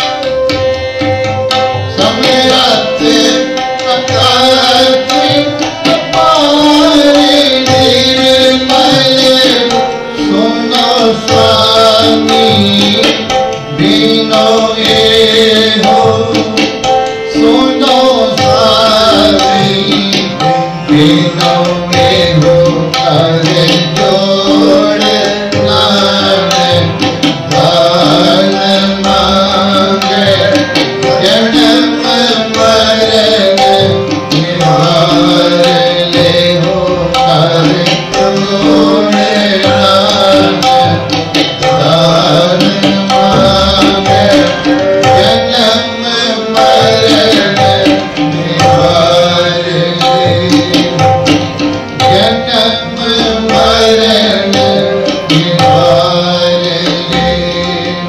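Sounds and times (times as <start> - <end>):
tabla playing: 0.0 - 58.0.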